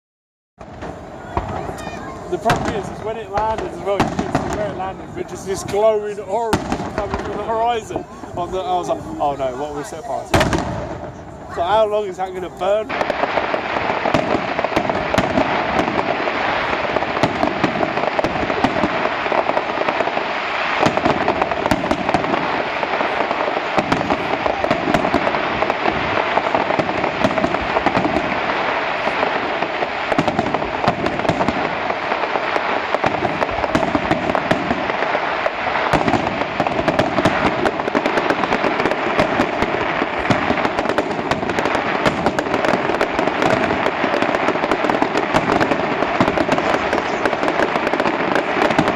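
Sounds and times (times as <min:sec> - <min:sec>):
fireworks crackling and popping: 0:00.6 - 0:48.9
sharp firework cracks: 0:00.6 - 0:48.9.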